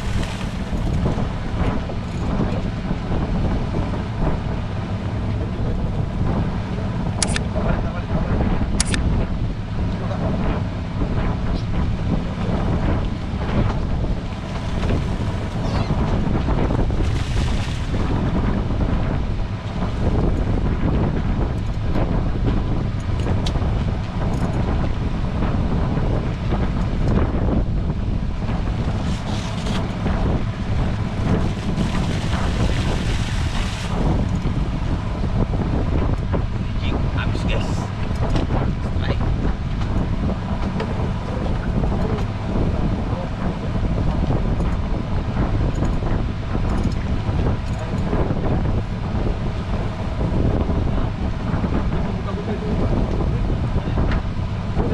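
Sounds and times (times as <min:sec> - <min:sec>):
small fishing boat: 0:00.0 - 0:54.9
wind buffeting microphone: 0:00.0 - 0:54.9.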